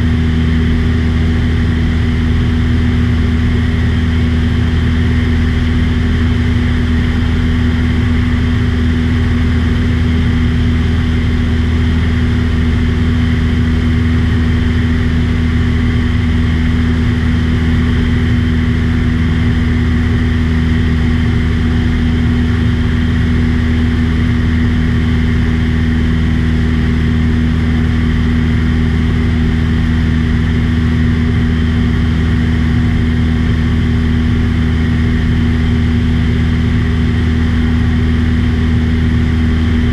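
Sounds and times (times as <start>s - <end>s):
propeller airplane engine droning: 0.0s - 39.9s.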